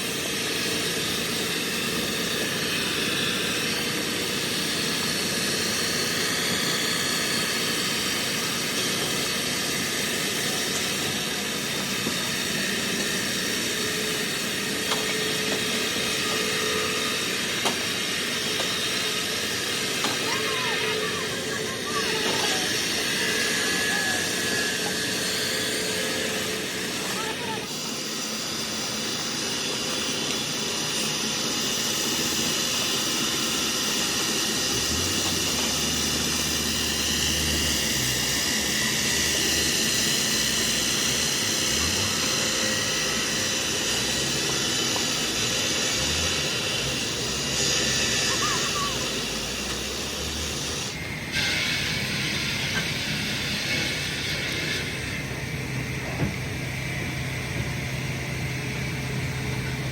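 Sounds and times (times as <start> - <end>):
heavy machinery hissing rush: 0.0 - 59.9.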